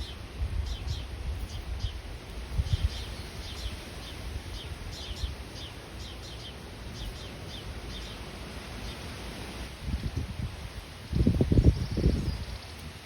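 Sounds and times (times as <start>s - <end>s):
songbird chirping: 0.0s - 9.5s, 11.1s - 13.0s.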